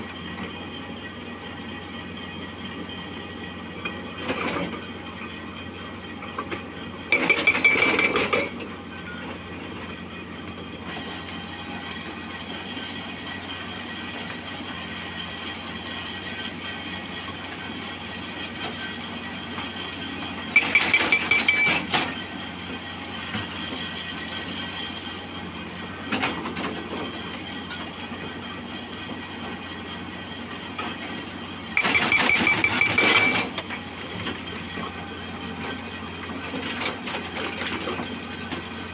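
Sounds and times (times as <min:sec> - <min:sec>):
excavator running: 0:00.0 - 0:38.9.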